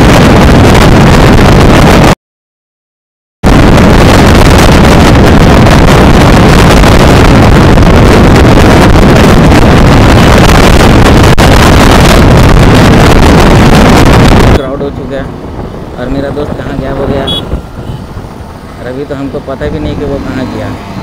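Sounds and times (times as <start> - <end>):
wind rush on microphone: 0.0 - 2.2, 3.4 - 21.0.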